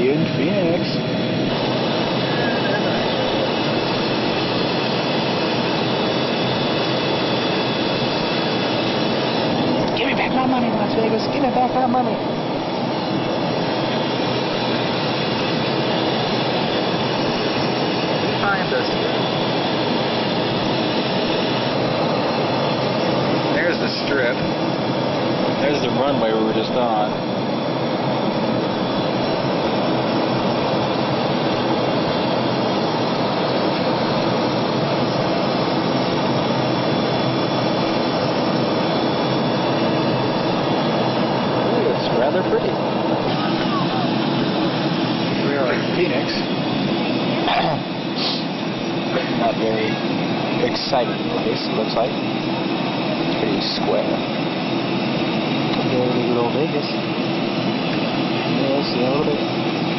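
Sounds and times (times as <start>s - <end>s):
jet engines in cabin: 0.0s - 59.9s.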